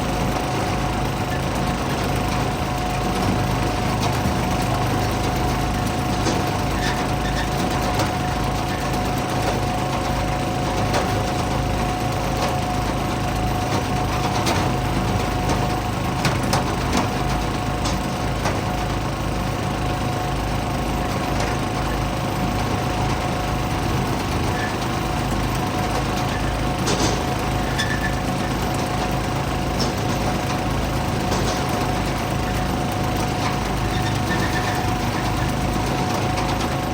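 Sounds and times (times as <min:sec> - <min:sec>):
small gasoline engine running: 0:00.0 - 0:36.9.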